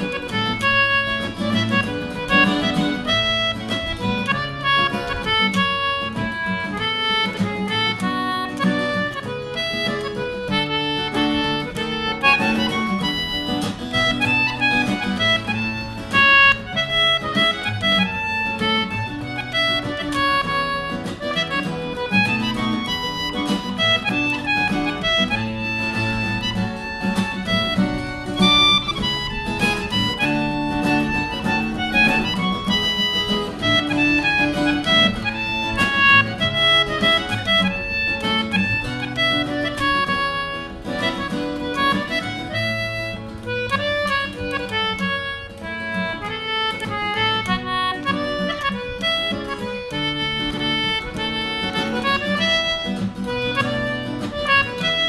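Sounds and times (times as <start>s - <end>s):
acoustic guitar: 0.0s - 55.0s
concertina: 0.0s - 55.0s.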